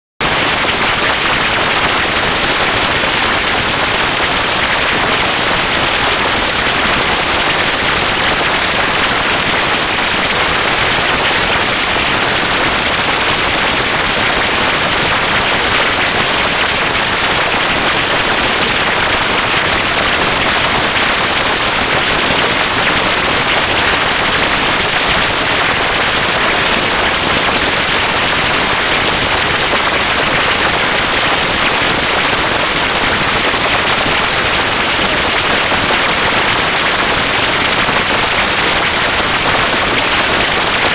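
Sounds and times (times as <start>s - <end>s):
harsh distorted crackling noise: 0.2s - 40.9s.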